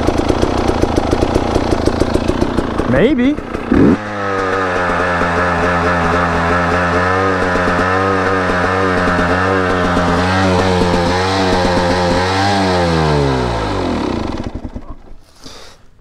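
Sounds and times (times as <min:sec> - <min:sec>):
dirt bike engine at high revs: 0:00.0 - 0:15.6.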